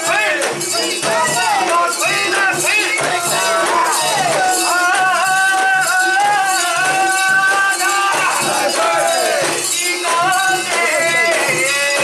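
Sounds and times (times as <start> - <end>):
metallic jingling: 0.0 - 12.0
steady repeating drum beat: 0.0 - 12.0
voices singing and calling: 0.0 - 12.0.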